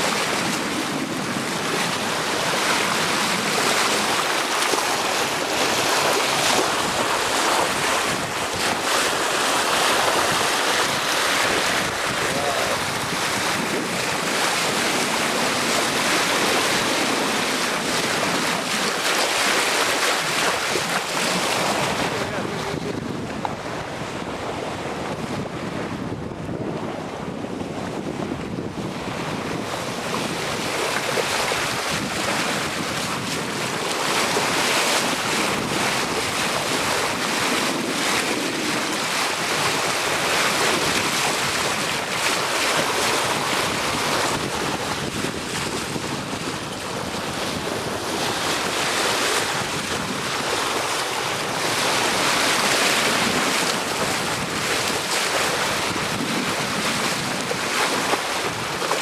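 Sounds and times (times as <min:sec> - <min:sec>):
water rushing along hull: 0:00.0 - 0:59.0
wind buffeting microphone: 0:00.0 - 0:59.0.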